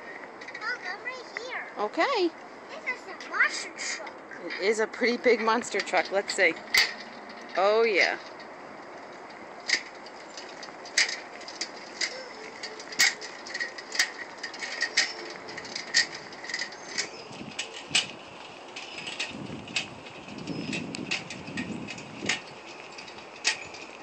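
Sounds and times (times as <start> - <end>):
tricycle rolling on concrete: 0.0 - 24.0.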